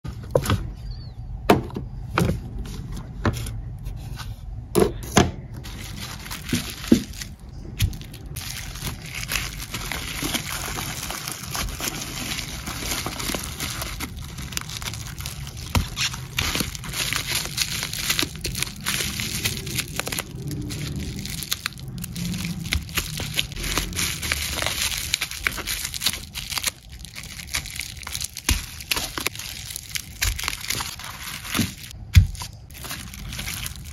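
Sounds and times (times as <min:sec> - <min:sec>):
bubble wrap crinkling: 0:05.6 - 0:33.9.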